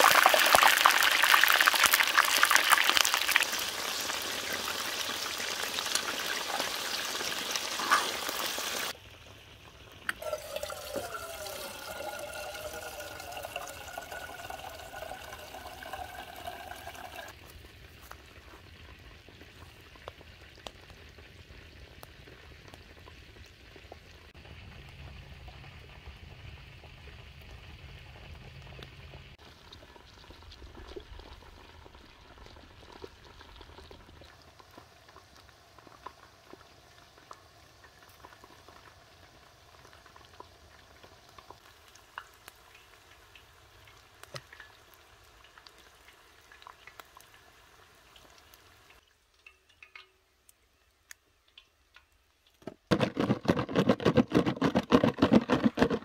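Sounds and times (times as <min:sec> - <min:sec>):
chicken frying in hot oil: 0:00.0 - 0:52.9.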